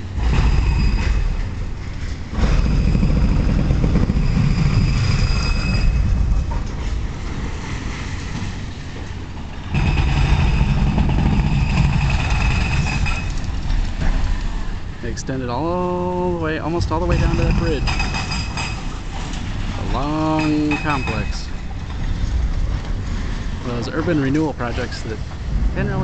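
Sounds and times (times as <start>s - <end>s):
demolition machine engine rumble: 0.0s - 26.0s.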